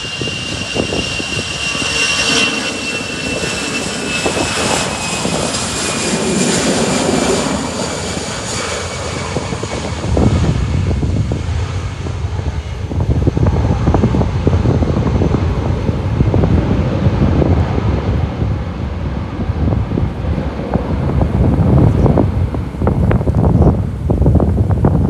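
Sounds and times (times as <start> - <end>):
gusty wind buffeting microphone: 0.0 - 25.0.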